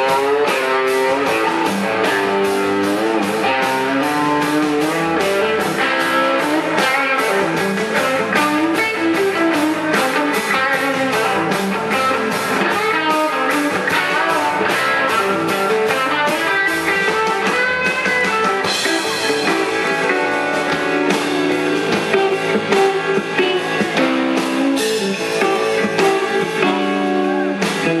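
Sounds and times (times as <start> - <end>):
electric guitars: 0.0 - 28.0
steady drum beat: 0.0 - 28.0.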